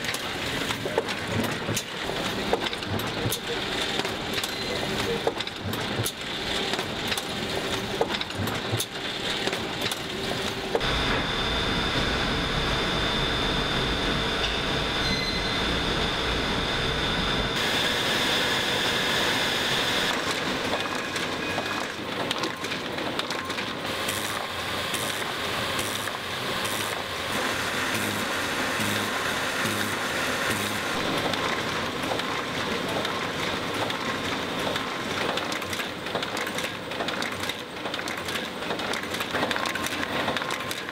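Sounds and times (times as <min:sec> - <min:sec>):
printing machines clattering: 0:00.0 - 0:12.5, 0:18.8 - 0:40.9.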